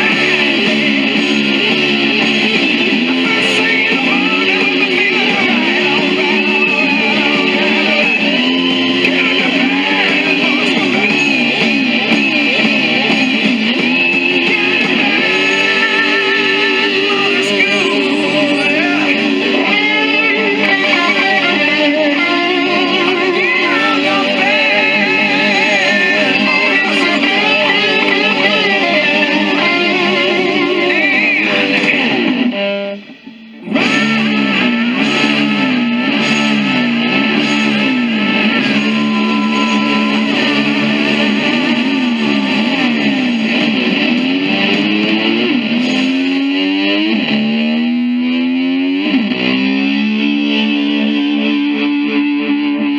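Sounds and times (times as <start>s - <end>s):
distorted slide guitar rock: 0.0s - 52.9s.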